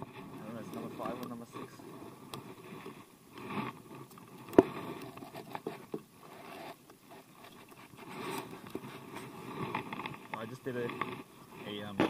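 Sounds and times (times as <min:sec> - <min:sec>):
clothing rustling on microphone: 0:00.0 - 0:12.0.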